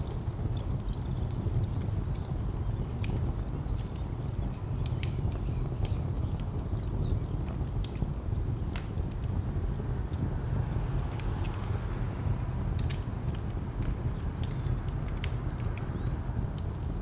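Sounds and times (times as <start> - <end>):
distant traffic rumble: 0.0 - 17.0
wood fire crackling: 0.0 - 17.0.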